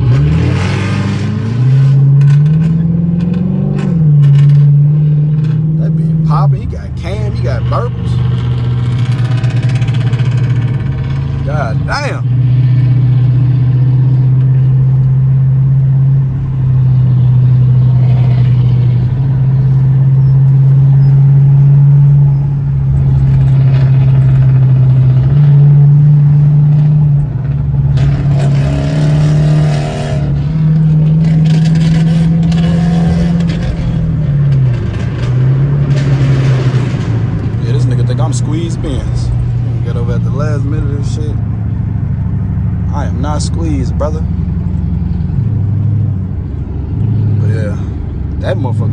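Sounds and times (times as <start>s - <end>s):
car exhaust at full throttle: 0.0s - 48.9s.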